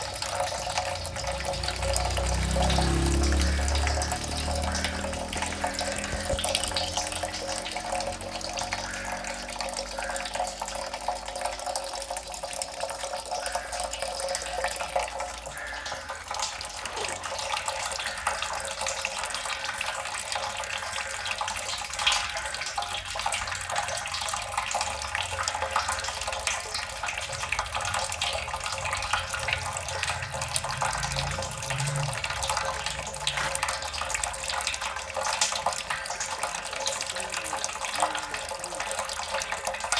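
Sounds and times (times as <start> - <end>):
water dripping: 0.0 - 39.9
water trickling: 0.0 - 39.9.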